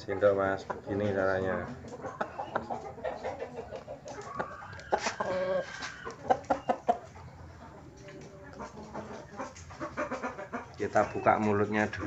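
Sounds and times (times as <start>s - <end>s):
chicken clucking: 0.0s - 12.0s.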